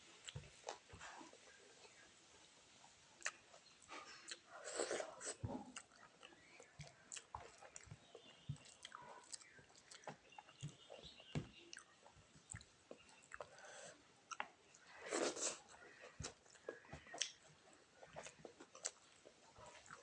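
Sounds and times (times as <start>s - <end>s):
mouth chewing with wet smacks: 3.2s - 13.7s, 14.3s - 20.0s.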